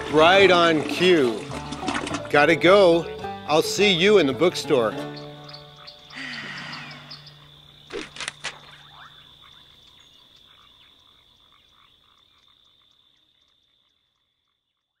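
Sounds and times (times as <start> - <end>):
frogs chorus: 0.0 - 15.0
insects chirping: 0.0 - 15.0.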